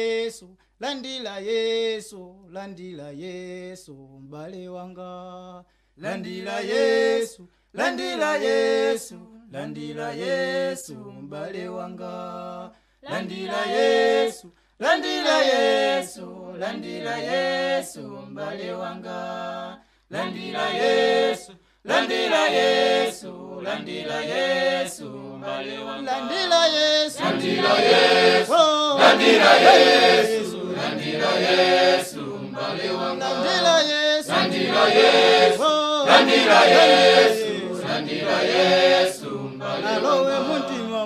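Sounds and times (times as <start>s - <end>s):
voices singing gospel unaccompanied: 6.0s - 41.0s.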